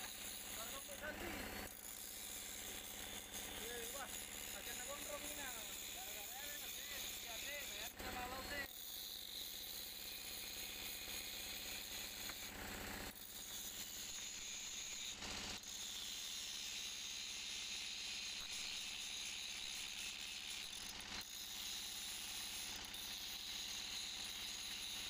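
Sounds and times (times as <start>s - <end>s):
angle grinder cutting metal: 0.0s - 25.0s.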